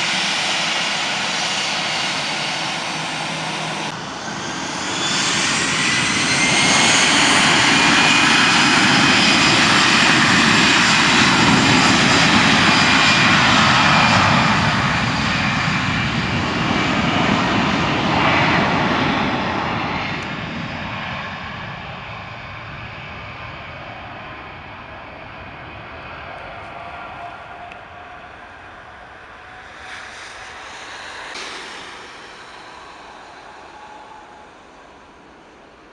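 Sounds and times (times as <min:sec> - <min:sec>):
jet engines roaring past: 0:00.0 - 0:35.9.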